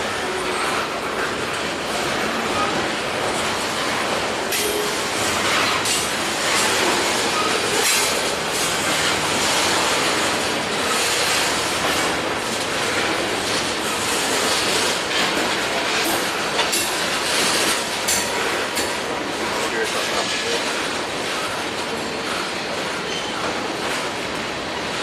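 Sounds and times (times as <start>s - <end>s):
train wheels clacking over rail joints: 0.0s - 25.0s.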